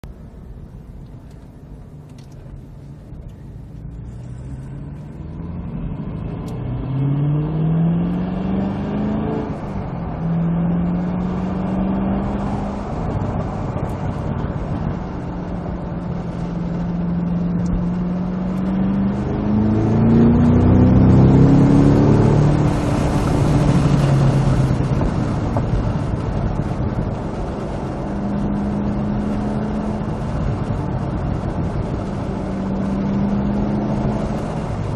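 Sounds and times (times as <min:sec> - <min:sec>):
car engine accelerating hard: 0:02.1 - 0:34.9.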